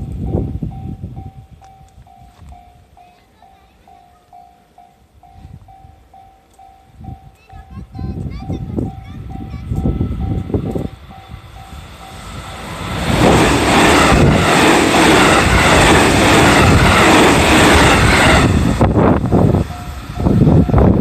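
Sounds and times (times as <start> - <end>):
freight train wheels rattling on rails: 0.0 - 21.0.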